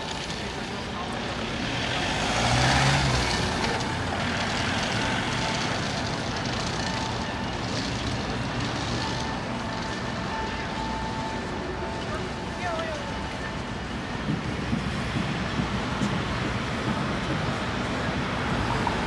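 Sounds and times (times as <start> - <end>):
city street noise: 0.0 - 19.0
vehicle driving by: 0.0 - 19.0.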